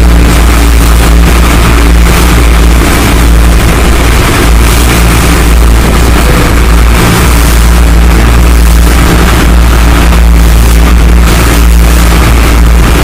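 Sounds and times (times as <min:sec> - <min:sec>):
boat engine droning: 0:00.0 - 0:13.0
rushing noise: 0:00.0 - 0:13.0.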